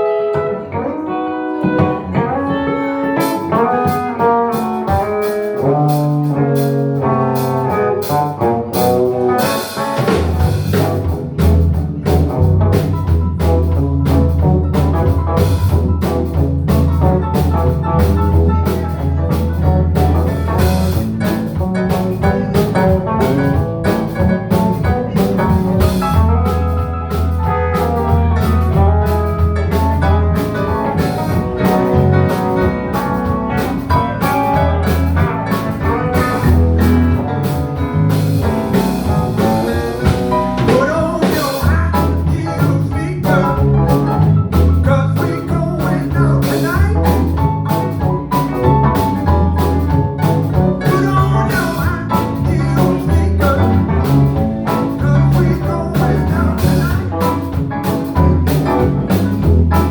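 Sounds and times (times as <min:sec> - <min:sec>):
live band playing blues: 0:00.0 - 0:59.9.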